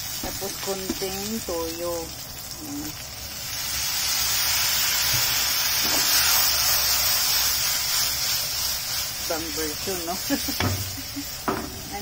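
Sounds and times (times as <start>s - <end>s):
sauce sizzling in a hot pan: 0.0s - 12.0s.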